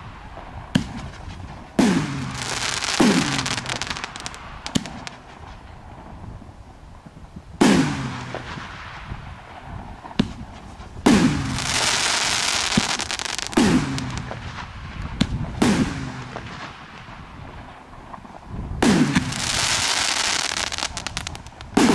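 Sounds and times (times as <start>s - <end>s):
fireworks bangs with echo: 0.0s - 5.7s, 7.6s - 21.9s
faint fireworks pops: 0.0s - 6.4s, 7.0s - 21.9s
crackling hiss of burning stars: 0.0s - 21.9s.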